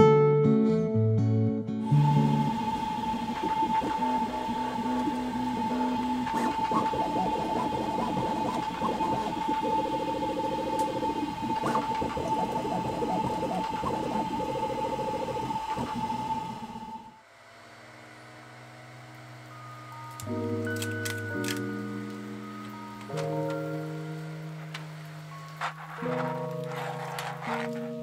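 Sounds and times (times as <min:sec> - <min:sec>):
steady high tone: 0:01.8 - 0:26.8
stepper motors whining: 0:01.8 - 0:28.0.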